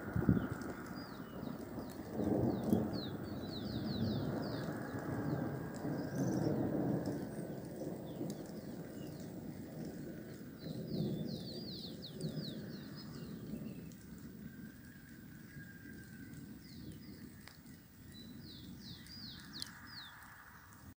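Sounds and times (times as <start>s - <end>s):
distant thunder rumbling: 0.0s - 20.9s.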